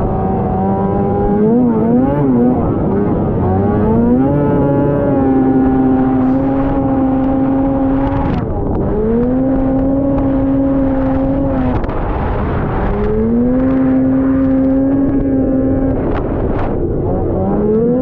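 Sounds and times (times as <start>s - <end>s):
snowmobile engine revving: 0.0s - 18.0s
steady rushing noise: 0.0s - 18.0s.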